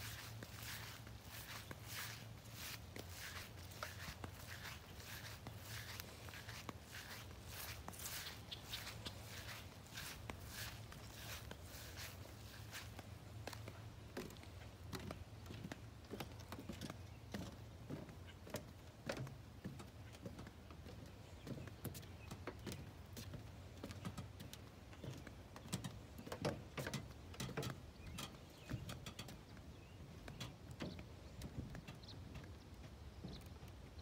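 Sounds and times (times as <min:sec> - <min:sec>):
footsteps on wooden planks: 0:00.0 - 0:34.0.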